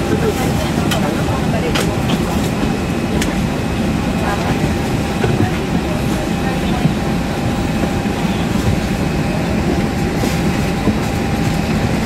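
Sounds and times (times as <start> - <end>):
low rumble of jet engines: 0.0 - 12.0.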